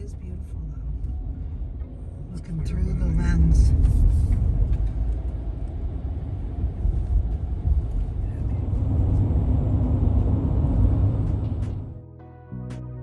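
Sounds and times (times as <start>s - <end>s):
road and engine rumble in cab: 0.0s - 12.0s.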